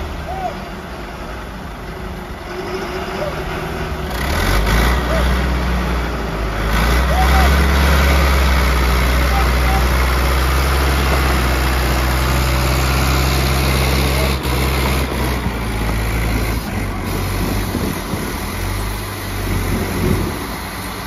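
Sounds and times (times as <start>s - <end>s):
diesel engines droning: 0.0s - 21.0s.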